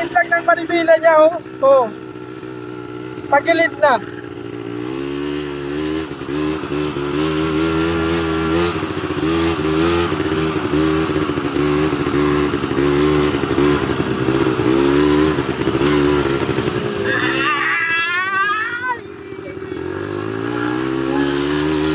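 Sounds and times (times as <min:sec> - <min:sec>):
atv engine revving: 0:00.0 - 0:21.9.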